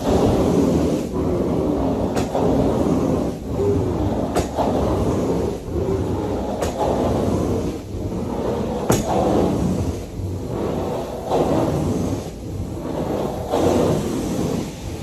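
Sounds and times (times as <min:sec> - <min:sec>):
carpet cleaner strokes on carpet: 0:00.0 - 0:15.0.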